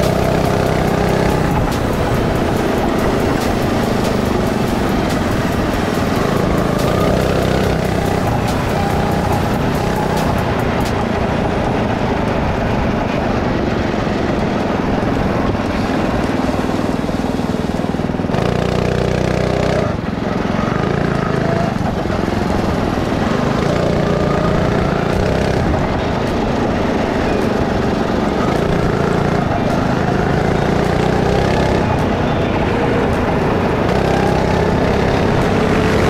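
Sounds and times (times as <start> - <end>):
go-kart engine revving: 0.0 - 36.0.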